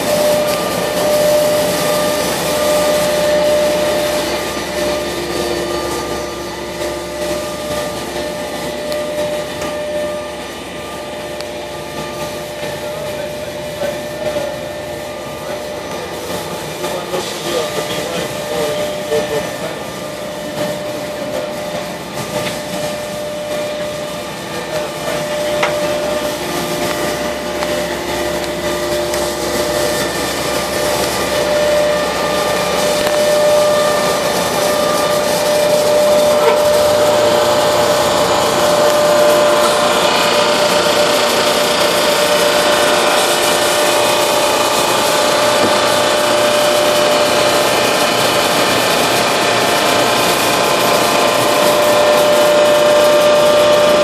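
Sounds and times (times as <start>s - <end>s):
machine humming and whining: 0.0s - 54.0s.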